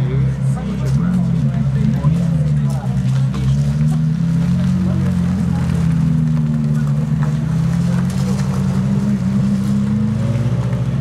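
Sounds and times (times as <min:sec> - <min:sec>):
car engine low drone: 0:00.0 - 0:11.0.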